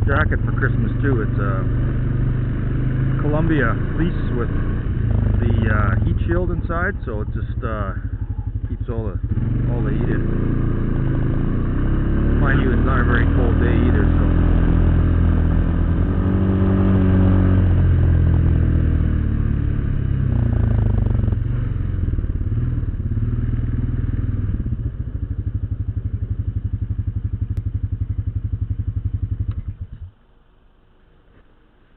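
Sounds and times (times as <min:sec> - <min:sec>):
atv engine idling: 0:00.0 - 0:31.9.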